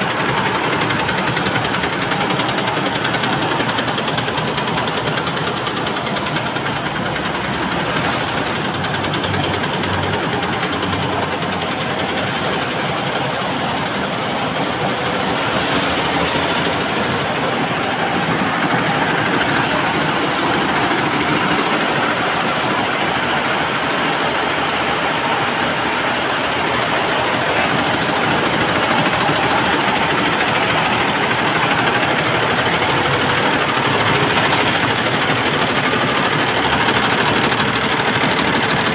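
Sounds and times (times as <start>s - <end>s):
embroidery machine stitching: 0.0s - 38.9s.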